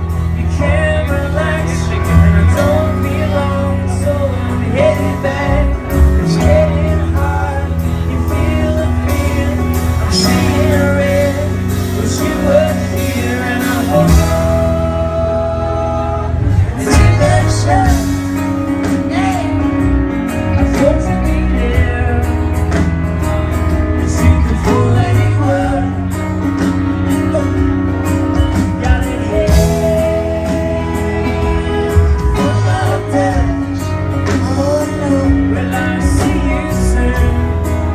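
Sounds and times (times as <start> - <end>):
acoustic guitar: 0.0 - 37.9
person singing: 0.0 - 37.9
steady bass and rhythm: 0.0 - 37.9.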